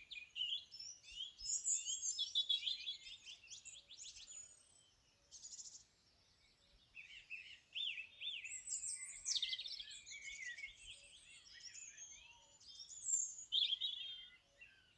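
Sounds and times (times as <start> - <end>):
songbirds singing and calling: 0.0 - 14.9.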